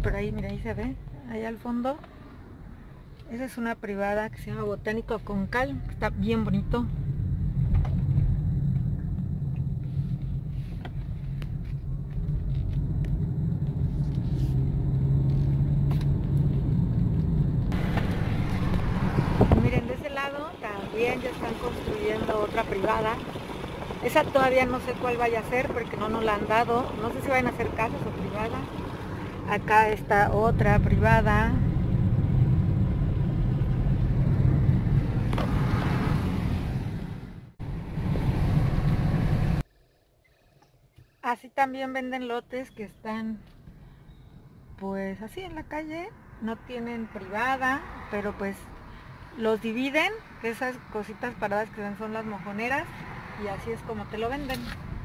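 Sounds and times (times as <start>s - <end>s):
outside road noise rush: 0.0s - 55.0s
tyre and road rumble: 4.2s - 39.7s, 43.4s - 55.0s.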